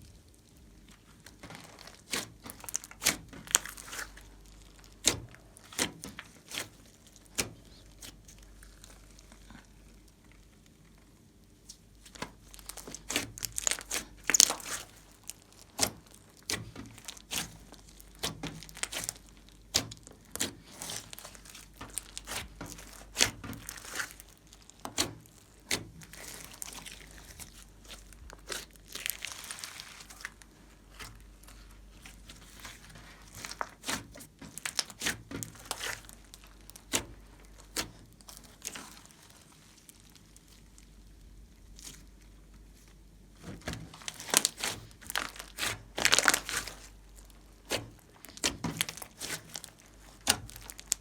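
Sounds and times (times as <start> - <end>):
slime crackling and popping: 0.0 - 51.0.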